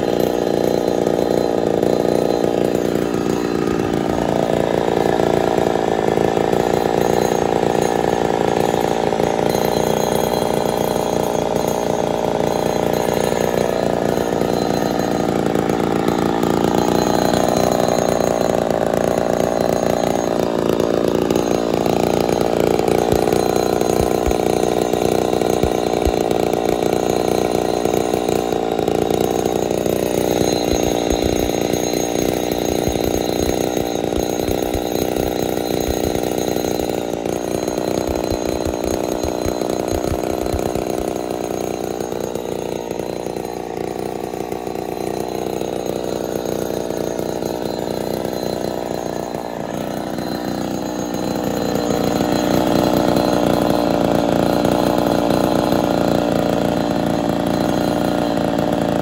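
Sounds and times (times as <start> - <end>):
chainsaw running: 0.0 - 59.0.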